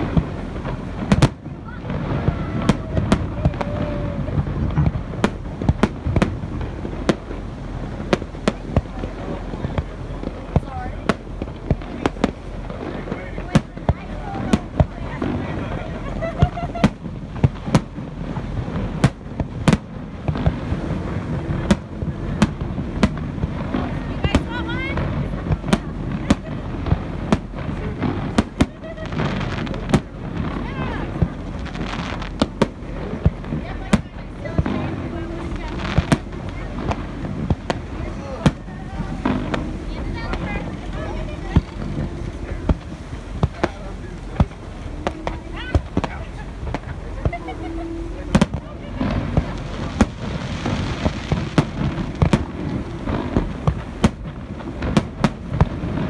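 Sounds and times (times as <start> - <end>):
fireworks bangs: 0.0 - 56.0
rumbling background: 0.0 - 56.0.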